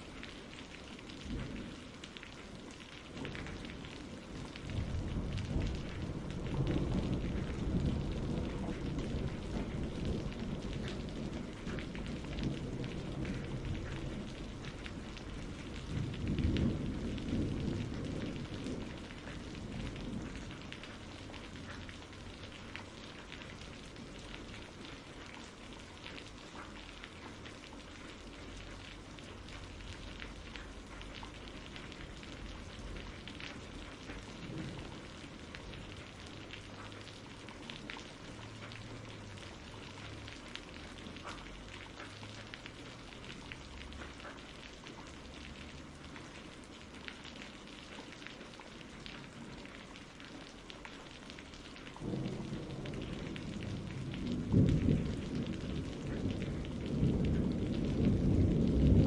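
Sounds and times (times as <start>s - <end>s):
low rolling thunder: 0.0s - 2.4s, 3.0s - 25.7s, 28.1s - 44.2s, 51.9s - 59.0s
steady rain pattering: 0.0s - 59.0s.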